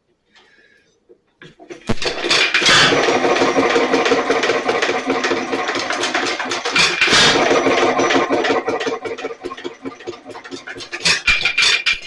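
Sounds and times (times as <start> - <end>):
engine running with fast clatter: 1.7 - 12.0.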